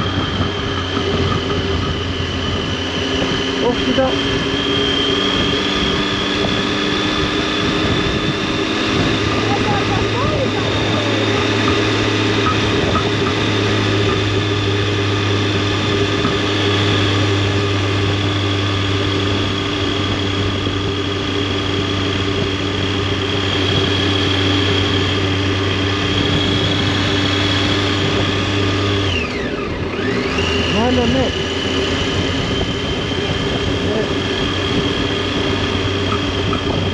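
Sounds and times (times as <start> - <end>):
motorcycle engine and exhaust: 0.0 - 36.9.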